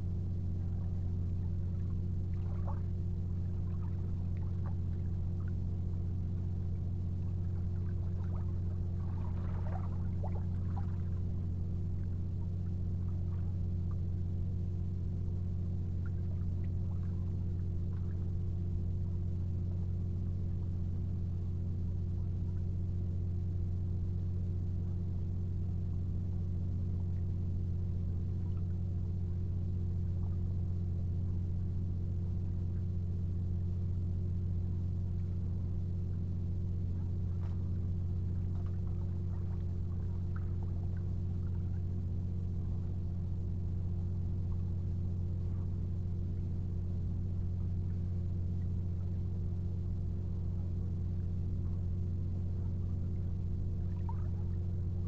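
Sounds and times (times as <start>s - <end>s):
low droning hum: 0.0s - 55.0s.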